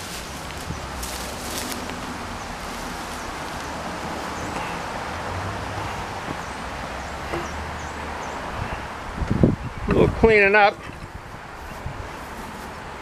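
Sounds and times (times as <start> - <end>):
rustling foliage: 0.0 - 13.0.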